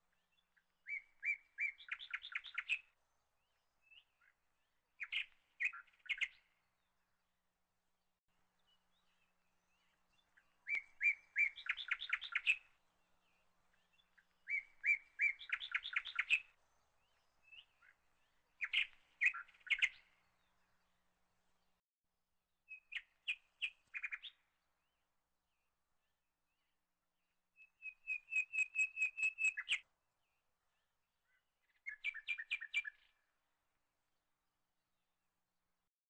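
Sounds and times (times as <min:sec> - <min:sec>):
songbird singing: 0:00.0 - 0:21.8, 0:22.6 - 0:35.3.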